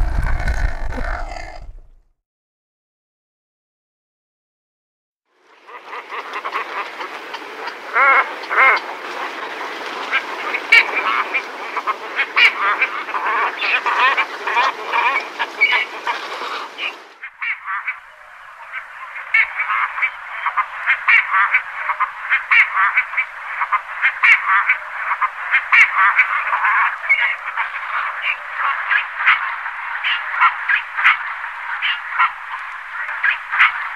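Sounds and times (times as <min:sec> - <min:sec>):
cormorants calling: 0:05.6 - 0:33.9.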